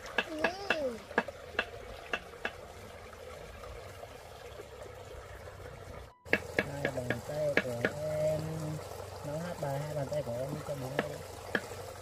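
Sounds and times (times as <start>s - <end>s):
soft steady water sound: 0.0s - 12.0s.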